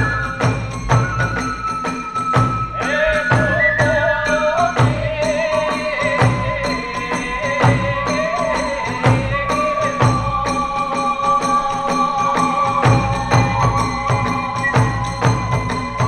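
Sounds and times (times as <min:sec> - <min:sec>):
ringing hand cymbals: 0:00.0 - 0:16.0.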